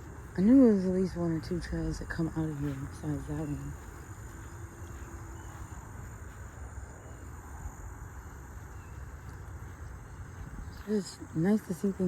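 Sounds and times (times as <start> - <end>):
faint high insect hum: 0.0 - 12.0.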